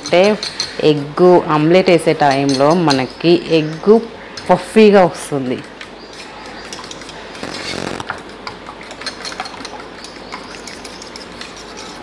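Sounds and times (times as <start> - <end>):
metal spoon beating eggs in bowl: 0.0 - 12.0.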